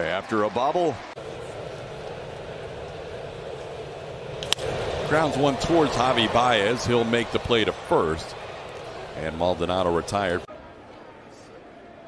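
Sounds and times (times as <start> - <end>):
stadium crowd murmur: 0.0 - 12.0.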